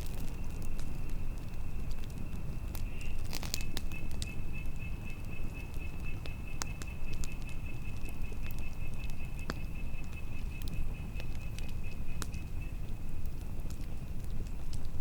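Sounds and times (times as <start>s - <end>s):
campfire crackling and popping: 0.0s - 15.0s
low rumble of wind: 0.0s - 15.0s.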